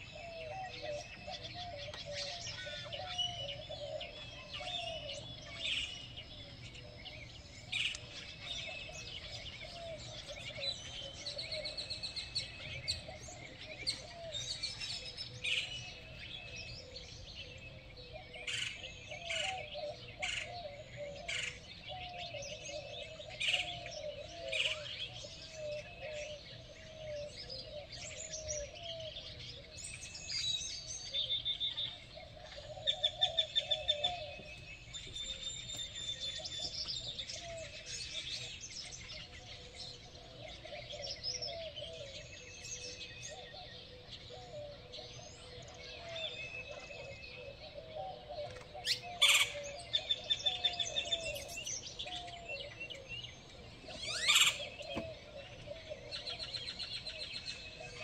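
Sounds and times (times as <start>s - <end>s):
songbirds singing and calling: 0.0s - 58.0s.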